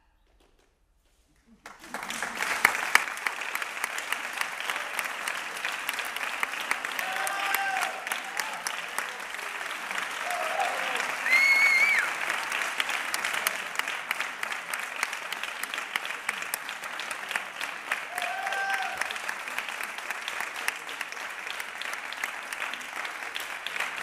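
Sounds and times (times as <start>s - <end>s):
audience applauding: 1.5s - 24.0s.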